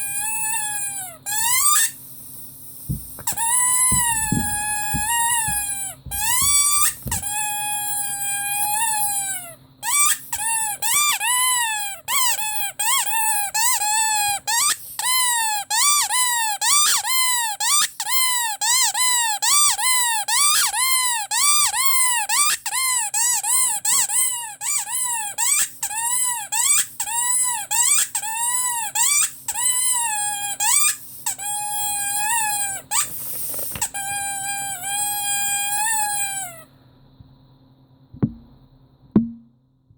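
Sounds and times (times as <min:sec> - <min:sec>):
rubber squeaky toy squeaking: 0:00.0 - 0:02.0, 0:02.9 - 0:36.7.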